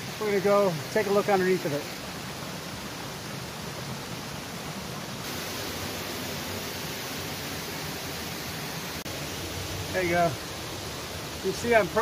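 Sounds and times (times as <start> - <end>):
creek and small waterfall rushing: 0.0 - 12.0.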